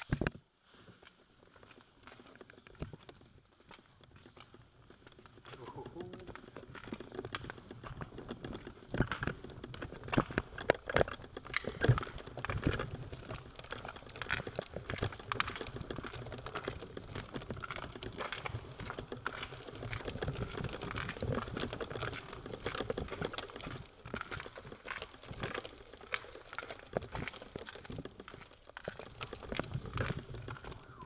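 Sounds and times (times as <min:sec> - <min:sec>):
bicycle tyres rumbling: 0:00.0 - 0:31.0
bike clicks and rattles: 0:00.0 - 0:31.0.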